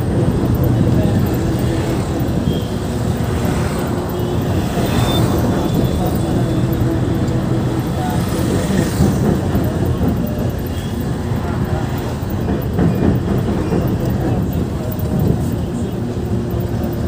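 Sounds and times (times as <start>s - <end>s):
bus engine and road rumble: 0.0s - 17.0s
passing traffic: 0.0s - 17.0s.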